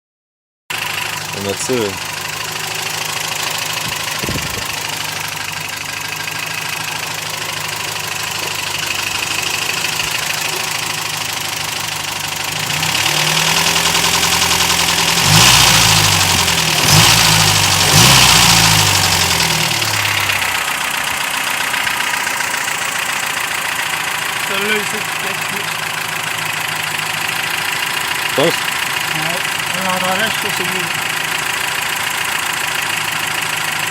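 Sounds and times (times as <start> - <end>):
engine idling with ticking: 0.7 - 33.9
engine revving: 0.7 - 33.9.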